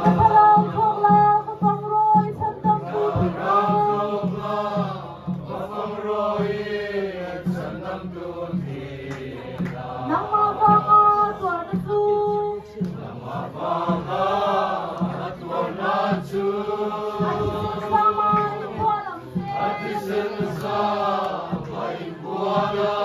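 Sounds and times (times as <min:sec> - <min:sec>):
group singing a hymn: 0:00.0 - 0:23.0
low drumbeat: 0:00.0 - 0:23.0.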